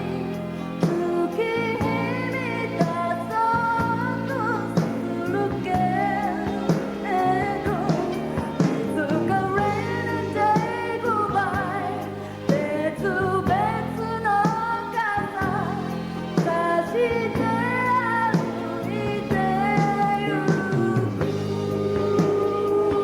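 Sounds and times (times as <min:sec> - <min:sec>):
bass: 0:00.0 - 0:23.0
live pop band: 0:00.0 - 0:23.0
woman singing: 0:00.0 - 0:23.0.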